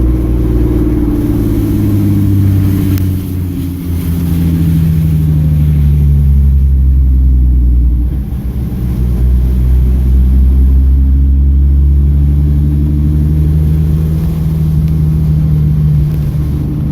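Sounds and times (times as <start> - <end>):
car engine running: 0.0 - 16.9.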